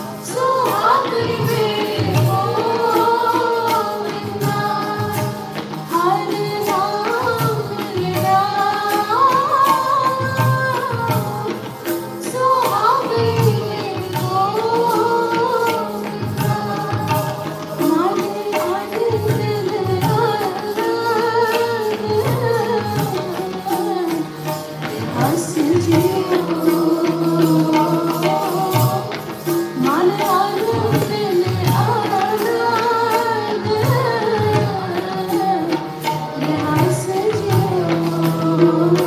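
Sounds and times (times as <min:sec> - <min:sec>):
harmonium: 0:00.0 - 0:39.0
tabla rhythm: 0:00.0 - 0:39.0
women singing a hymn: 0:00.0 - 0:39.0.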